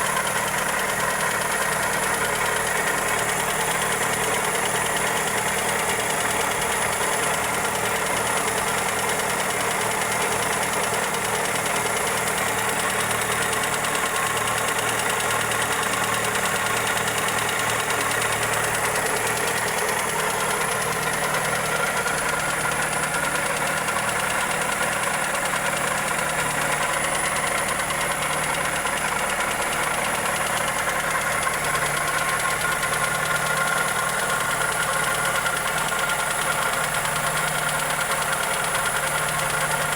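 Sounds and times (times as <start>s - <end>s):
engine idling with ticking knock: 0.0s - 39.9s.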